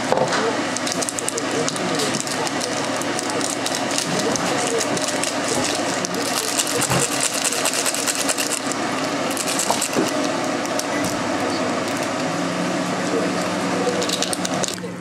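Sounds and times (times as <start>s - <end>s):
steady low hum: 0.0s - 15.0s
plastic and foil crinkling: 0.7s - 14.9s.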